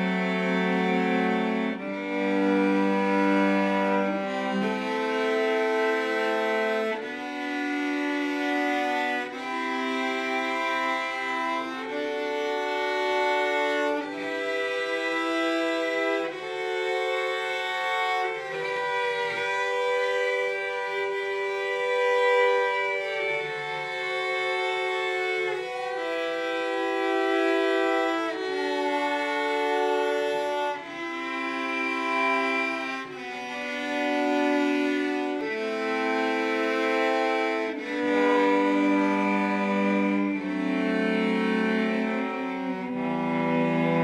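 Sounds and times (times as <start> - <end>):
cellos bowing sustained chords: 0.0 - 44.0.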